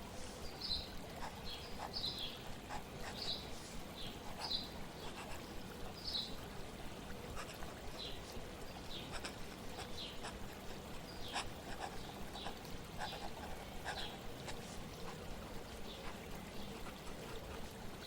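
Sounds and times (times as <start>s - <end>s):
flowing water: 0.0s - 18.0s
small birds chirping: 0.0s - 18.0s.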